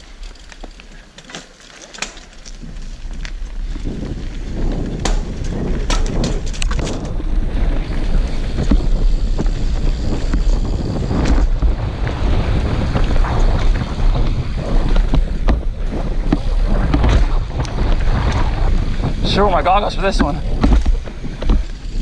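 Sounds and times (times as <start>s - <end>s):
bike rattling over bumps: 0.0s - 22.0s
low rumble of bike riding: 0.0s - 22.0s
wind buffeting microphone: 2.5s - 22.0s.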